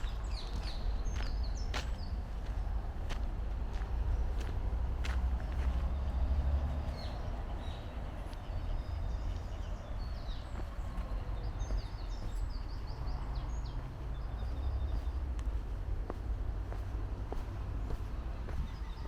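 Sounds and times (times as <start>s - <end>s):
songbirds chirping: 0.0s - 19.0s
steady low rumble: 0.0s - 19.0s.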